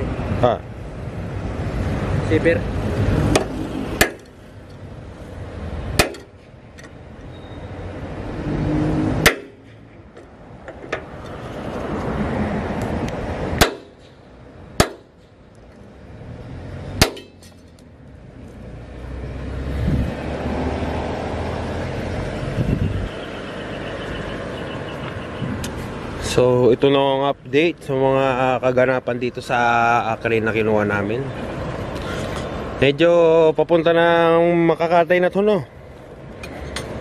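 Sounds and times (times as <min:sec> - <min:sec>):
steady background noise: 0:00.0 - 0:37.0.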